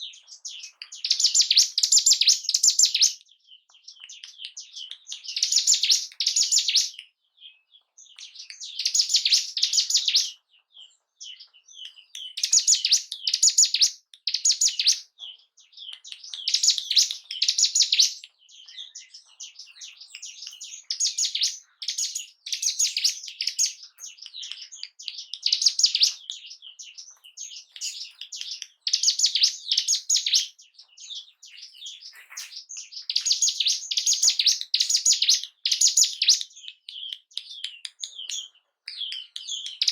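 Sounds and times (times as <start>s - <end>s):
bird singing rapid repeated notes: 0.0s - 39.9s.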